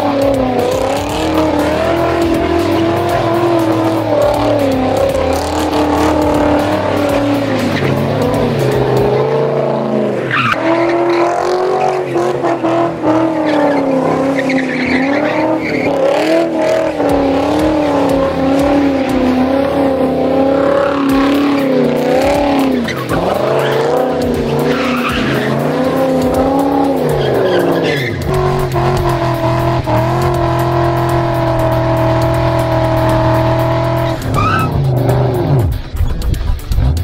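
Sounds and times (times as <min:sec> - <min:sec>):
tyres squealing: 0:00.0 - 0:36.5
car engine revving: 0:00.0 - 0:37.0.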